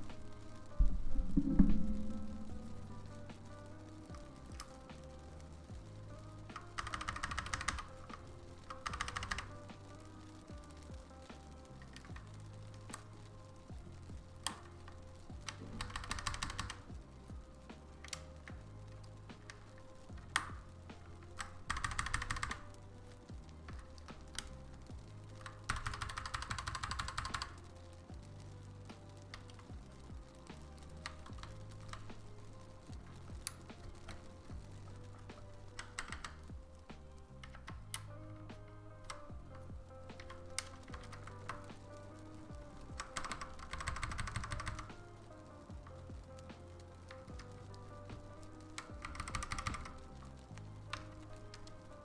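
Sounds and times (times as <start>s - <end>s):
mechanical keyboard typing: 0.0s - 28.2s, 29.0s - 52.0s
background music: 0.0s - 52.0s.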